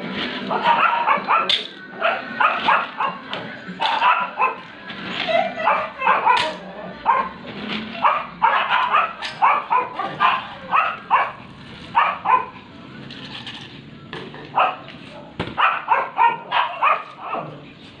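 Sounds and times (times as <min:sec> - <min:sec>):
dogs barking and yipping: 0:00.2 - 0:12.7, 0:14.5 - 0:17.8.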